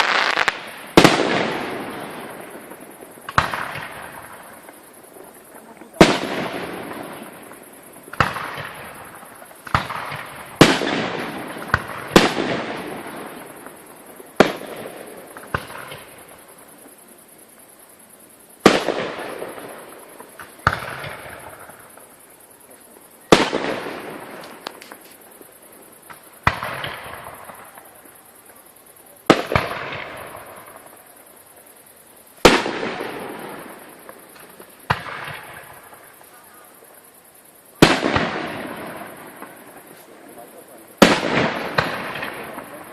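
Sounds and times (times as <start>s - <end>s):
fireworks bursting with bangs: 0.0s - 42.9s
fireworks echo and crackle: 0.0s - 42.9s.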